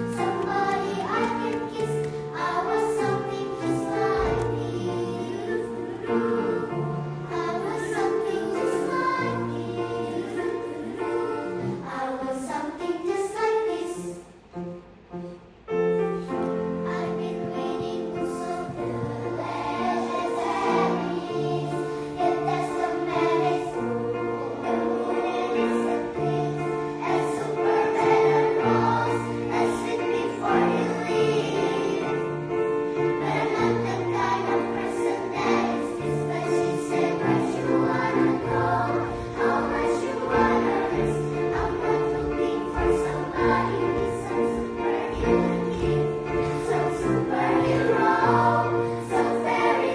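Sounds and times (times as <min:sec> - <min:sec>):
mixed choir singing: 0:00.0 - 0:14.3, 0:16.2 - 0:49.9.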